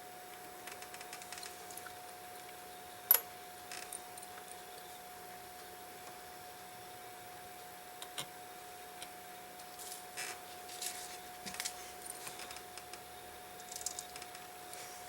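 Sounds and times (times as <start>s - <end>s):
faint steady whine: 0.0s - 15.0s.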